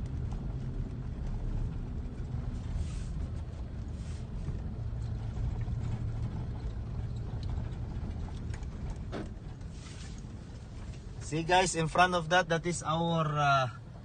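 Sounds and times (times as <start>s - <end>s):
light rattles and clicks: 0.0s - 12.8s
vehicle engine rumble: 0.0s - 14.0s.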